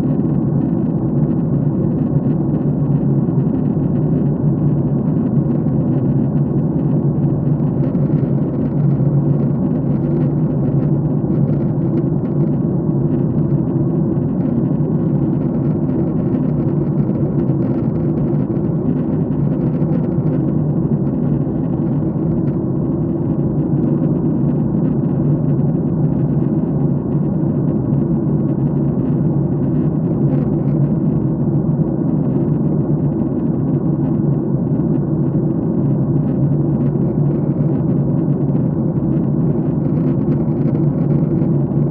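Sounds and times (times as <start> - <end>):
airliner cabin engine drone: 0.0 - 41.9.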